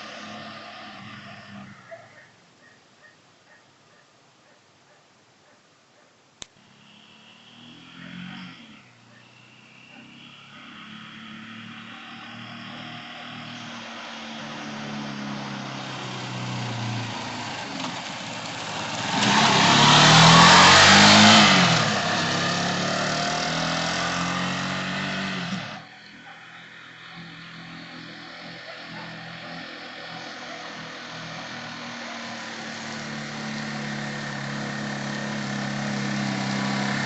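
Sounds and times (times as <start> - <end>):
motorcycle engine revving: 6.6 - 37.0.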